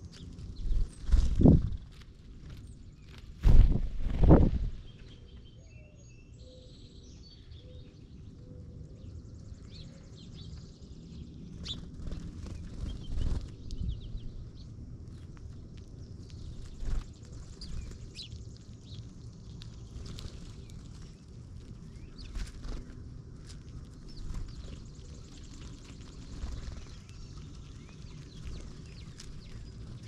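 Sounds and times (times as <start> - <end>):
steady low rumble: 0.0 - 5.6, 8.6 - 30.0
small birds chirping: 0.0 - 30.0.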